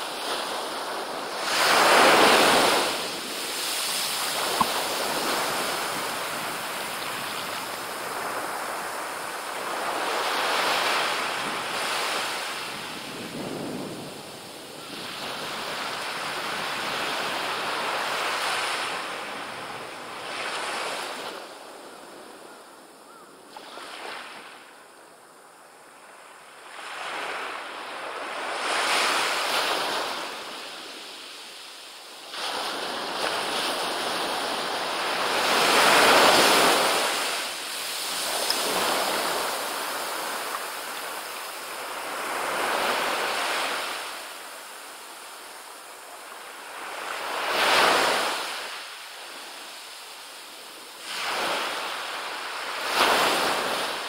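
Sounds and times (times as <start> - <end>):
small waves washing up a beach: 0.0 - 54.0.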